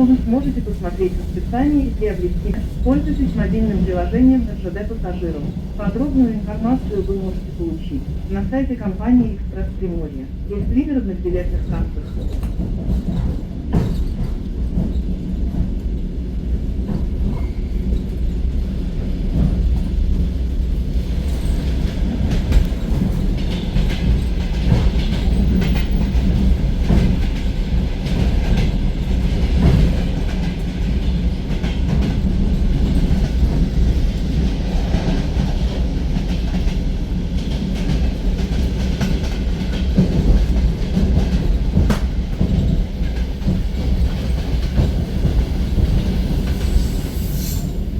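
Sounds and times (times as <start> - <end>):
train rumble inside carriage: 0.0 - 47.9.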